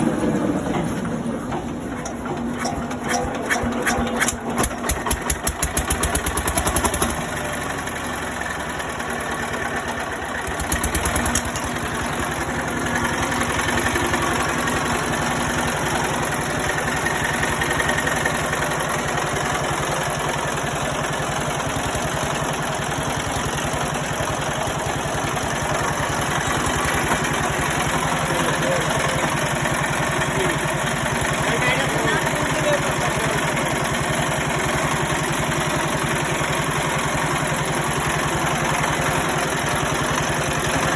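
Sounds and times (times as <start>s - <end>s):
diesel generator engine running: 0.0s - 40.9s.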